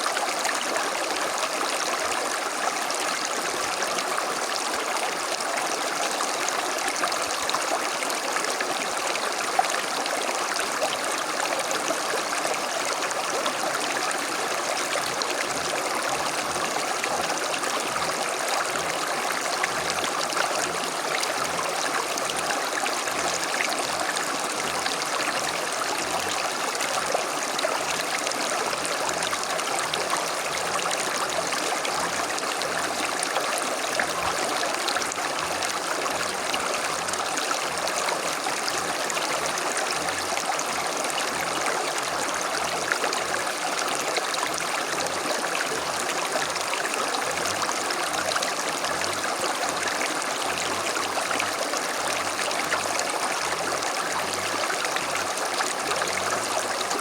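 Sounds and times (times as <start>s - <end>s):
creek flowing over stones: 0.0s - 57.0s.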